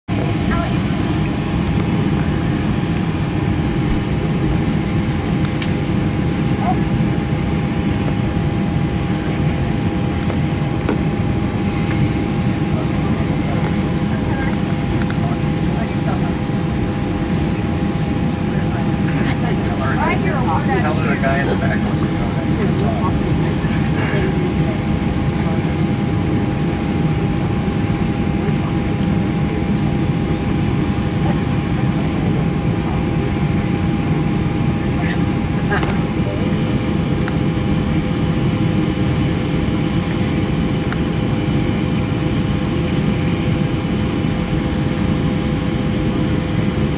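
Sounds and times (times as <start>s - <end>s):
airplane cabin rumble: 0.1s - 46.9s
constant two-pitch hum: 0.1s - 46.9s.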